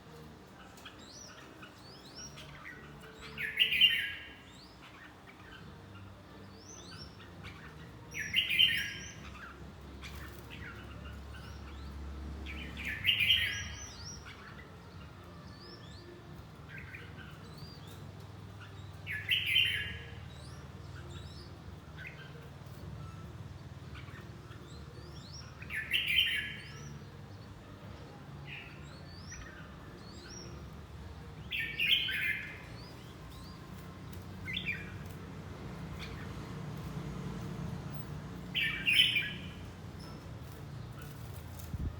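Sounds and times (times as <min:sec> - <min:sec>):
bulbul singing: 0:00.0 - 0:41.9.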